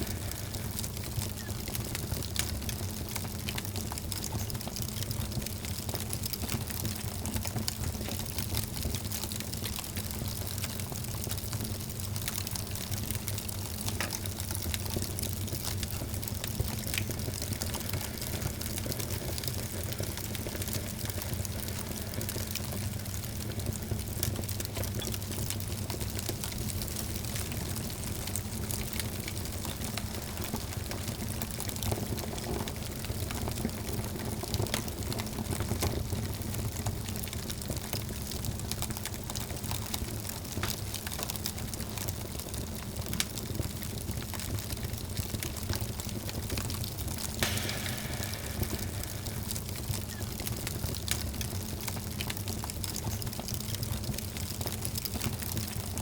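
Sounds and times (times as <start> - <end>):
fire low rumble: 0.0 - 43.2, 44.3 - 56.0
wood fire crackling and popping: 0.0 - 56.0.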